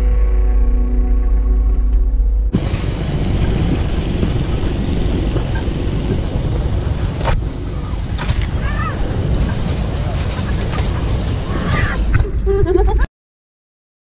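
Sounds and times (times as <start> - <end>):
truck engine rumble: 0.6 - 13.1.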